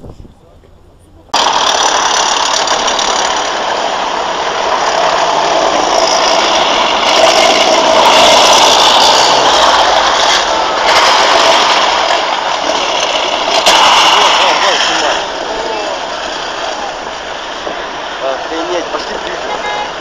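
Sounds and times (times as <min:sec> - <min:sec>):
tracked armored vehicles driving past: 0:00.9 - 0:20.0.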